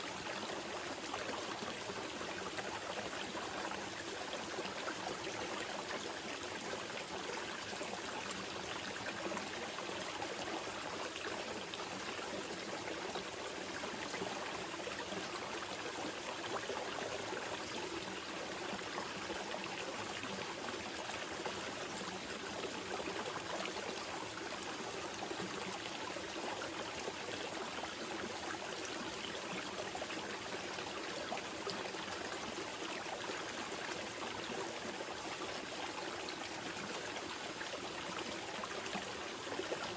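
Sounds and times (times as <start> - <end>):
river flowing gently: 0.0 - 39.9.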